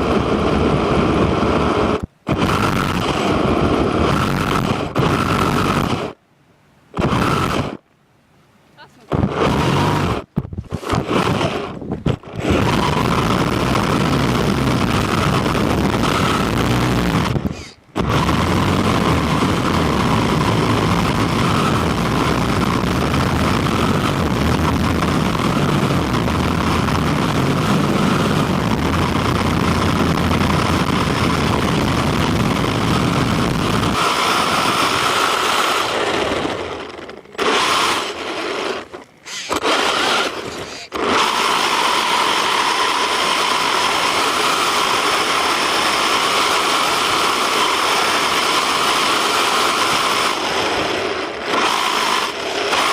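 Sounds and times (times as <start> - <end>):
electric motor whine: 0.0 - 6.2, 7.0 - 7.8, 9.0 - 52.9.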